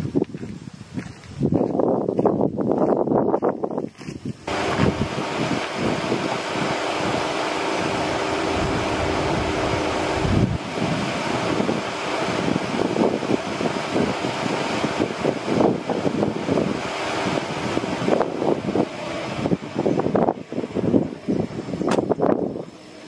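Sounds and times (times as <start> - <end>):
wind buffeting microphone: 0.0 - 22.8
steady low hum: 4.4 - 23.0.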